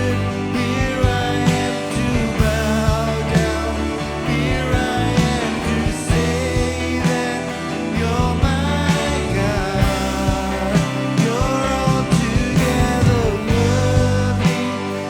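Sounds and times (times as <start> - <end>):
worship band music: 0.0 - 15.0.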